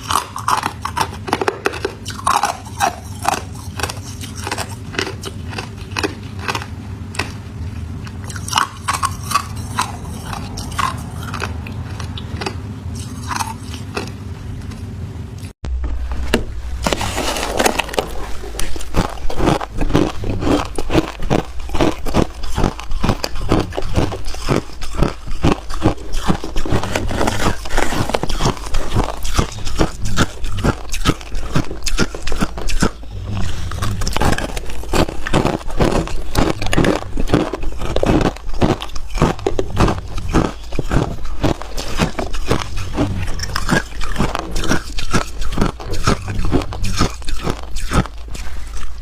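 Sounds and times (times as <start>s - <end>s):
ice being chewed: 0.0s - 15.5s, 16.8s - 49.0s
low hum: 1.9s - 49.0s.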